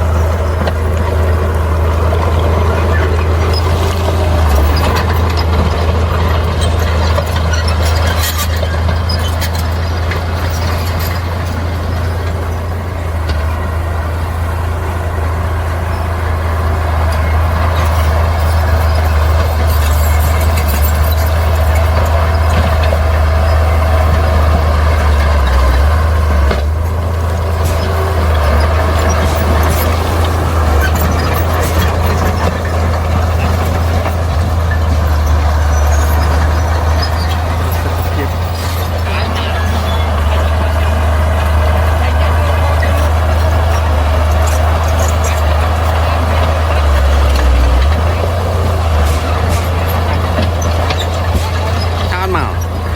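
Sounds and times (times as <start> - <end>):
heavy diesel machinery droning: 0.0 - 52.9.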